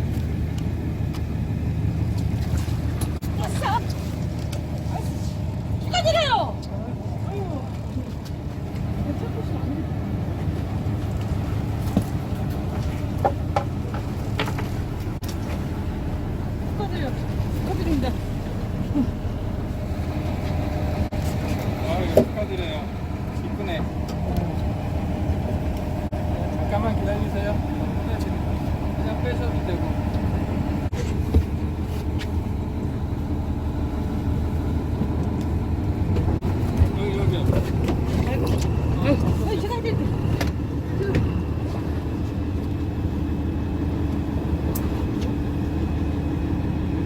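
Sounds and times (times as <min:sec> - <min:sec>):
boat engine rumbling: 0:00.0 - 0:47.0.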